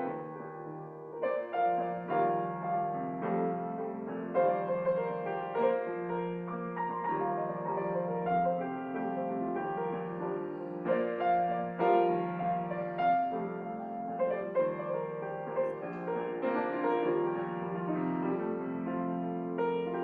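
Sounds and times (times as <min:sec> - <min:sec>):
slow gentle piano piece: 0:00.0 - 0:20.0.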